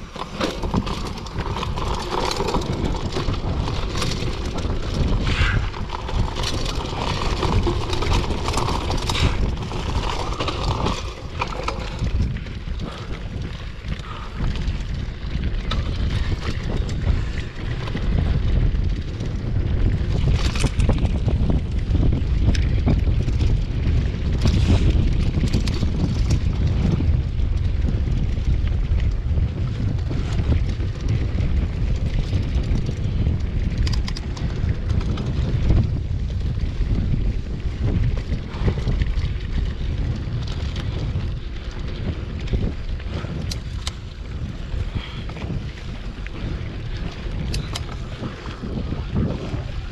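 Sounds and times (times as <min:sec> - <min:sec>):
bike knocking and rattling: 0:00.0 - 0:49.9
tyres rolling on dirt: 0:00.0 - 0:49.9
wind buffeting microphone: 0:00.0 - 0:49.9.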